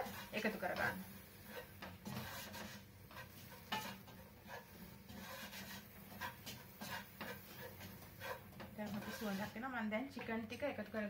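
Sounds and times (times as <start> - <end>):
wooden spoon scraping a metal pot: 0.0 - 9.8.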